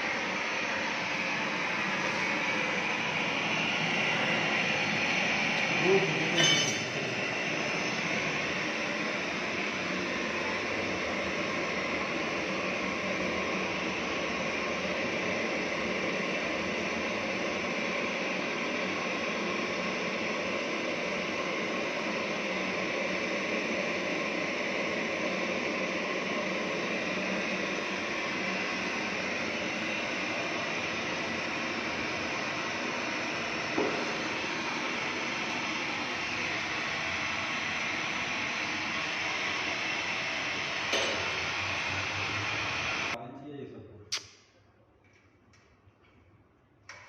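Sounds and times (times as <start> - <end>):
gas torch flame hissing: 0.0 - 43.2.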